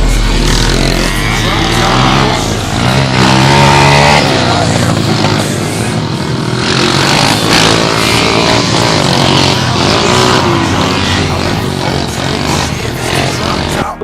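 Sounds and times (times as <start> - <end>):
pit bike engines revving: 0.0 - 14.0.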